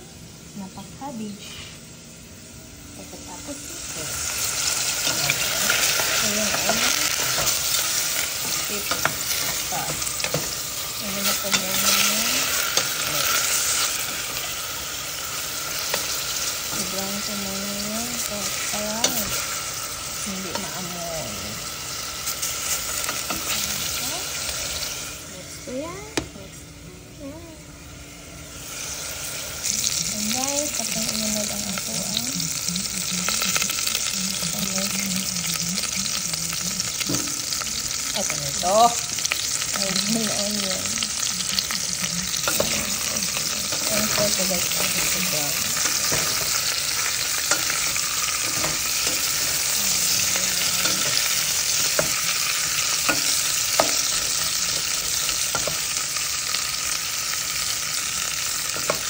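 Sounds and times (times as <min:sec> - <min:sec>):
meat and onion sizzling in oil: 0:00.0 - 0:26.6, 0:27.2 - 0:59.0.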